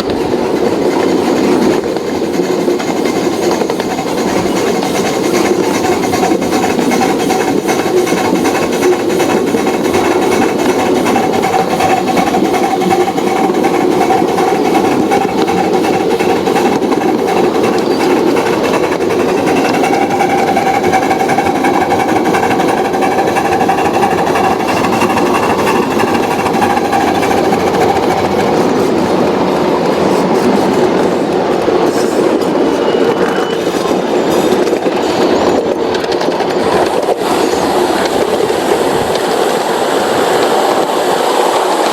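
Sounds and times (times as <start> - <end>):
model train rattling on track: 0.0 - 41.9.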